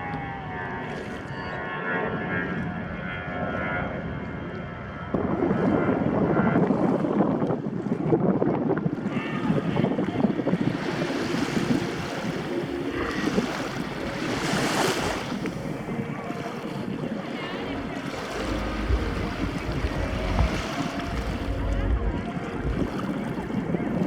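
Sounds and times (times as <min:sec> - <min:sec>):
wind buffeting microphone: 0:00.0 - 0:24.0
water splashing along boat hull: 0:04.5 - 0:24.0.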